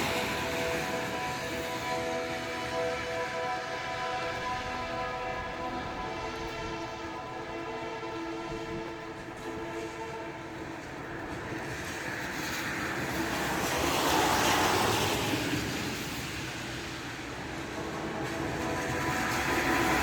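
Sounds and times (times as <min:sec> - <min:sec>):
broad rushing noise: 0:00.0 - 0:20.0
horn-like drone in the sky: 0:00.0 - 0:20.0.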